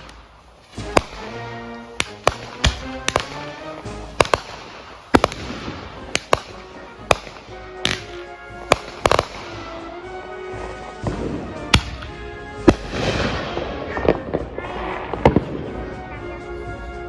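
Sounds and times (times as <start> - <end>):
fireworks bangs: 0.0 - 16.9
background music: 0.0 - 17.0.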